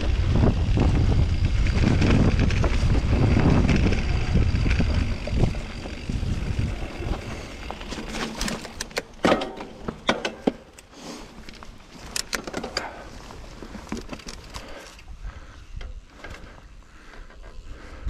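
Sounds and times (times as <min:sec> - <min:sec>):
mountain bike clattering over bumps: 0:00.0 - 0:10.8, 0:11.4 - 0:18.0.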